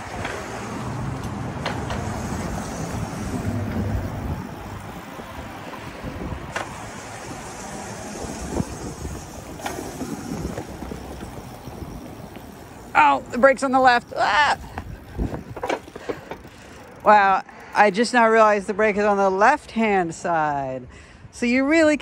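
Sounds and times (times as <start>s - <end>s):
electric scooter motor and chain: 0.0s - 18.4s
wheels rolling on concrete: 0.0s - 19.7s.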